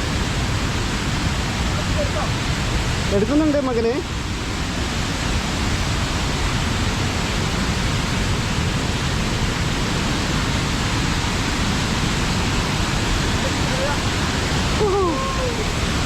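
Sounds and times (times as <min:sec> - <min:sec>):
fast-flowing stream water: 0:00.0 - 0:16.0.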